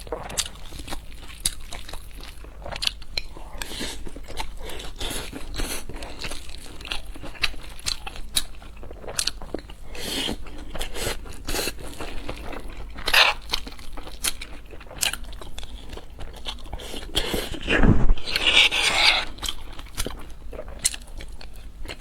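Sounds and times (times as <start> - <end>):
crunchy bites and chewing: 0.0 - 22.0.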